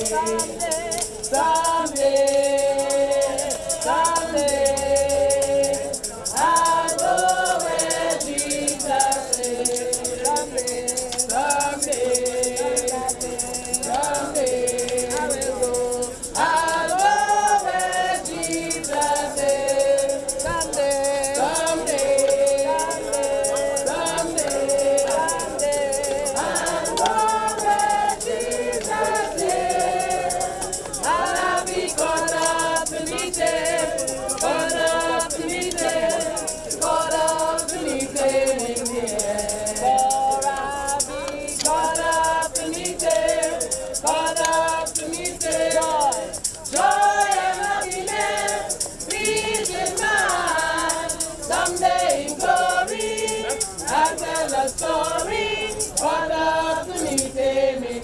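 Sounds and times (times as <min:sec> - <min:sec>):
group singing a hymn: 0:00.0 - 0:58.0
shaker rattling: 0:00.0 - 0:58.0.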